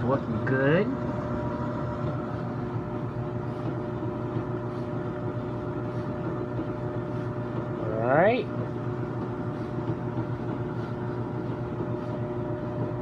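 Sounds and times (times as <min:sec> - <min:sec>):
washer-dryer humming: 0:00.0 - 0:13.0.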